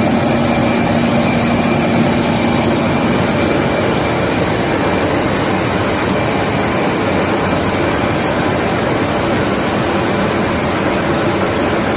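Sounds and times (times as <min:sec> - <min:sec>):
high-pitched whining tones: 0:00.0 - 0:11.9
lathe machine noise: 0:00.0 - 0:11.9.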